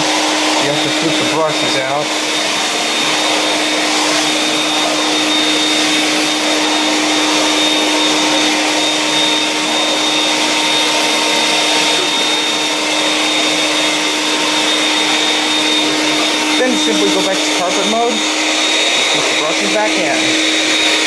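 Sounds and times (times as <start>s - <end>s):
canister vacuum running: 0.0s - 21.0s.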